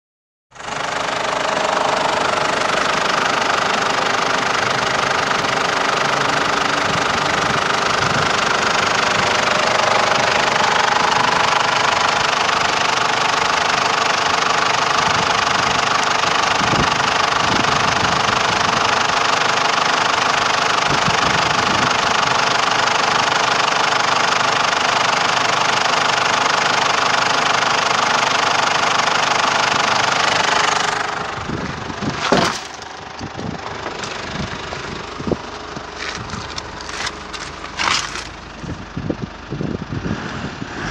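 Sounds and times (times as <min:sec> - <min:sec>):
diesel engine idling: 0:00.5 - 0:40.9.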